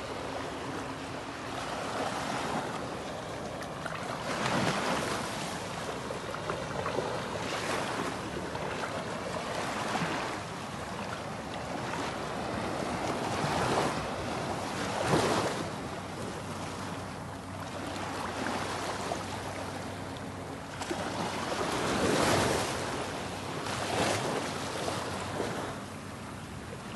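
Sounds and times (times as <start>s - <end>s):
ocean waves washing on beach: 0.0s - 26.9s.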